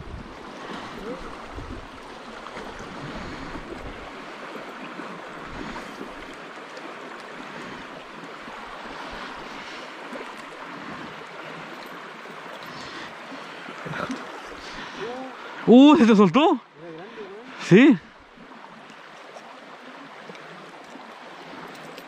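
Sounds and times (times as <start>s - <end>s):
stream running over pebbles: 0.0s - 22.0s.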